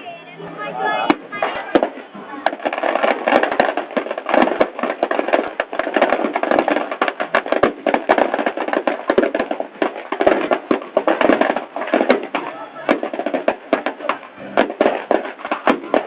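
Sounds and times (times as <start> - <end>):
bonfire crackling and popping: 0.1 - 16.0.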